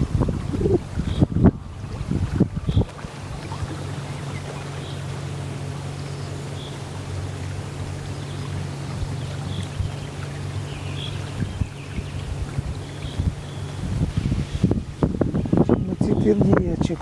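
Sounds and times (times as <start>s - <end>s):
boat motor humming: 0.0s - 17.0s
wind buffeting microphone: 0.0s - 17.0s.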